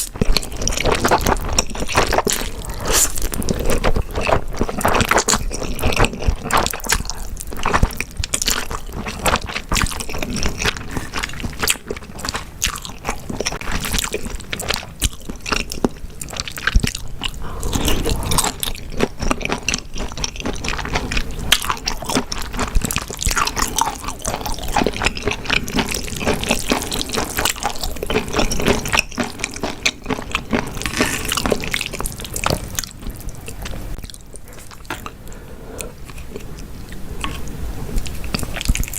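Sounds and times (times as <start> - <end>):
wet chewing and smacking: 0.0 - 38.9.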